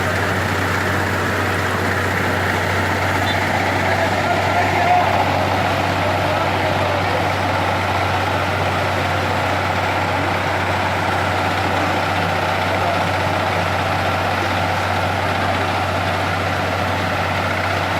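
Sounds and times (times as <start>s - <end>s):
heavy machine engine running: 0.0s - 17.9s.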